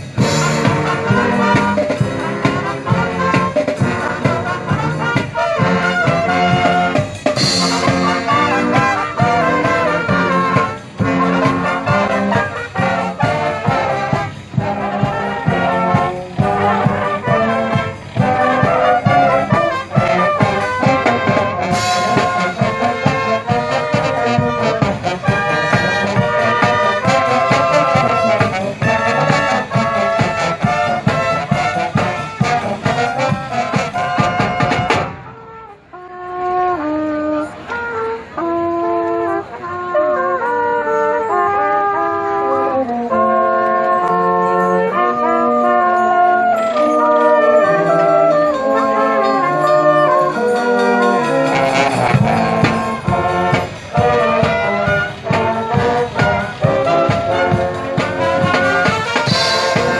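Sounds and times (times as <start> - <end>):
drum beats: 0.0 - 35.3, 46.9 - 59.9
marching band brass playing: 0.0 - 59.9.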